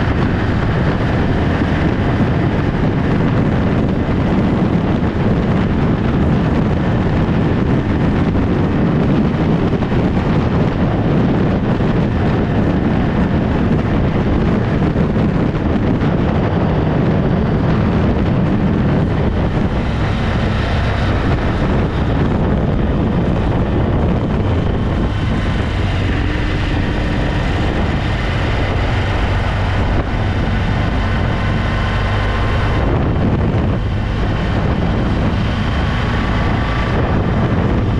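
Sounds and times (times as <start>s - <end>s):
motorcycle engine running: 0.0s - 37.9s
wind buffeting microphone: 0.0s - 37.9s.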